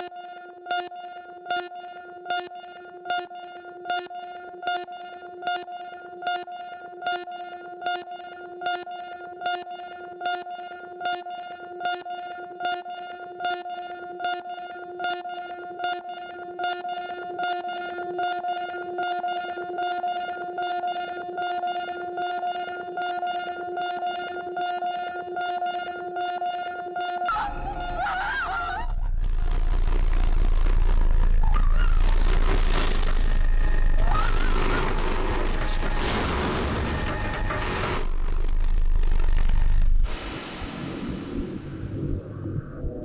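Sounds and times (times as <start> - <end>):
steady electronic drone: 0.0 - 43.0.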